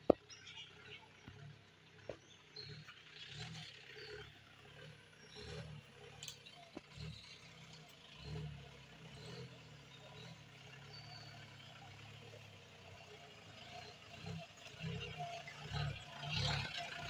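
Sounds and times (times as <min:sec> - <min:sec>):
birds chirping: 0:00.0 - 0:17.0
jeep engine in low gear: 0:00.0 - 0:17.0.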